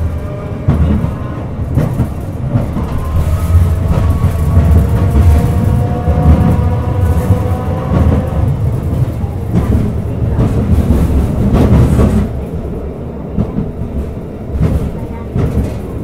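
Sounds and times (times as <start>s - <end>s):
streetcar wheels rumbling on rail: 0.0s - 16.0s.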